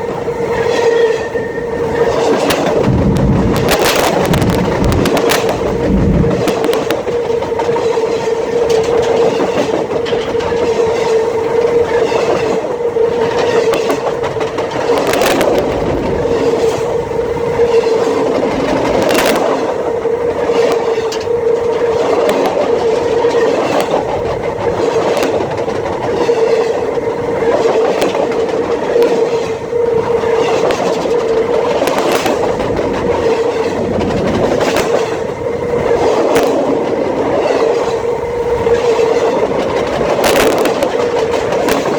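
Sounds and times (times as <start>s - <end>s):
freight train rumbling: 0.0s - 41.9s
train wheel clacks: 0.0s - 41.9s.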